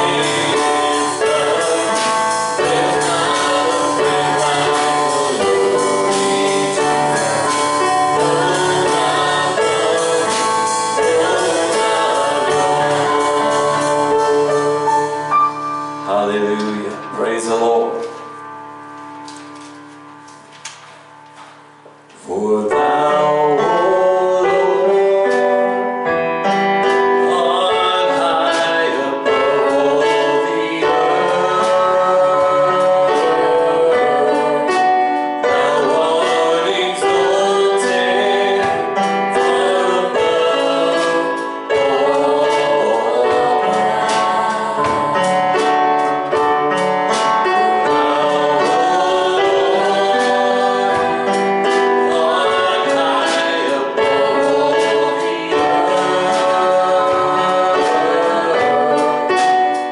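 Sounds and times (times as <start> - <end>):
gospel singing with instruments: 0.0 - 59.9.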